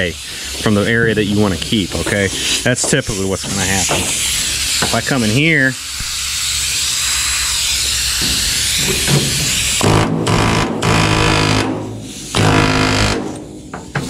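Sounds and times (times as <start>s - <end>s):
air hammer buzzing bursts: 0.0s - 14.0s
air hiss: 0.0s - 14.0s.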